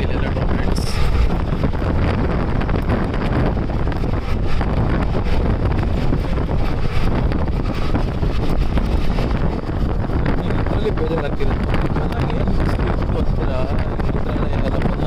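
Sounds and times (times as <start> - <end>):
train running noise: 0.0 - 15.0
wind buffeting microphone: 0.0 - 15.0.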